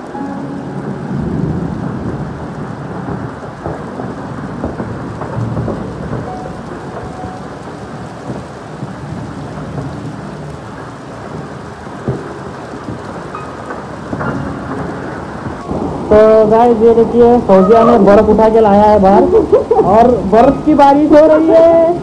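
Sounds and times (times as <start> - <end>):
heavy rain: 0.0 - 22.0
hailstones striking surfaces: 0.1 - 22.0.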